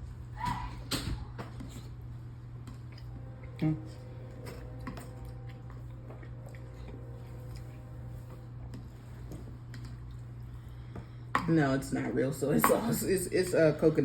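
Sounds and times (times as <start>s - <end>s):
close chewing and eating: 0.0s - 11.3s
steady low hum: 0.0s - 14.0s.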